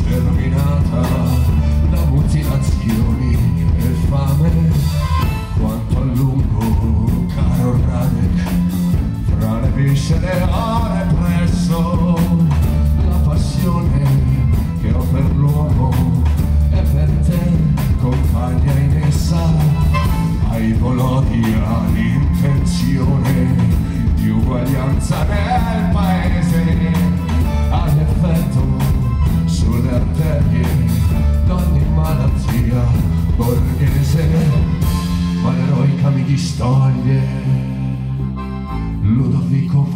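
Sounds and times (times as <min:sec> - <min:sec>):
accordion: 0:00.0 - 0:39.9
drum kit: 0:00.0 - 0:39.9
electric bass: 0:00.0 - 0:39.9.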